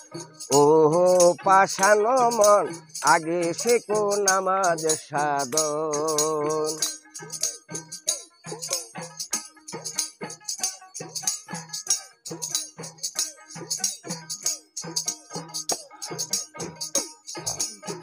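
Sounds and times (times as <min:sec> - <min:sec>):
jingling hand percussion: 0:00.0 - 0:18.0.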